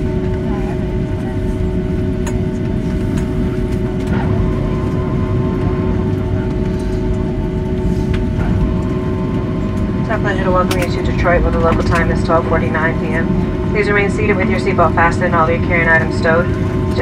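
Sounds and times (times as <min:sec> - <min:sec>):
jet engines idling rumble: 0:00.0 - 0:17.0
steady cabin hums: 0:00.0 - 0:17.0.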